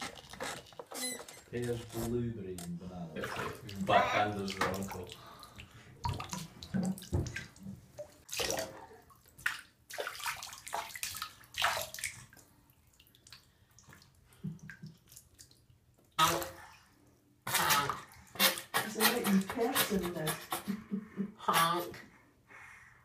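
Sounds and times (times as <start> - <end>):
water pouring and splashing in bathtub: 0.0 - 21.0.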